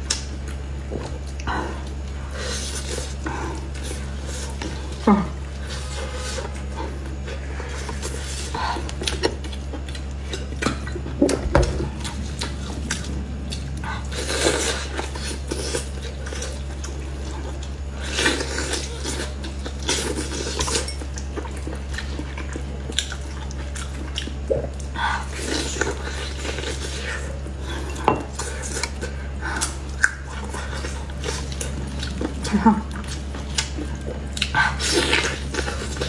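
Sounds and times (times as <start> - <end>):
low electrical hum: 0.0 - 36.0
wet biting and chewing: 5.6 - 36.0.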